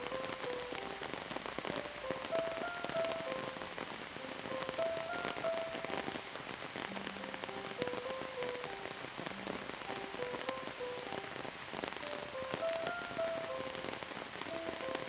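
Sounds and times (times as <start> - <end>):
rain falling: 0.0 - 15.0
soft slow melody: 0.0 - 15.0.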